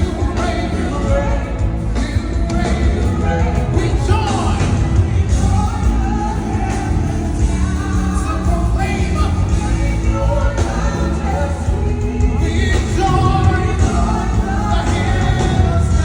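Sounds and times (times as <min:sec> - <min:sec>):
band with steady bass: 0:00.0 - 0:16.0
voices singing: 0:00.0 - 0:16.0.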